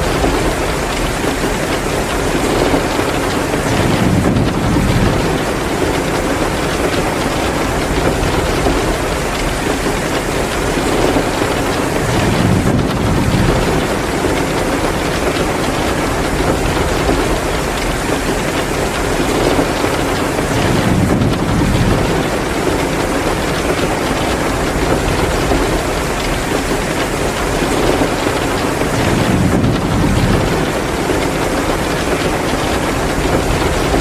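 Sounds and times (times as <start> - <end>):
heavy rain downpour: 0.0 - 34.0.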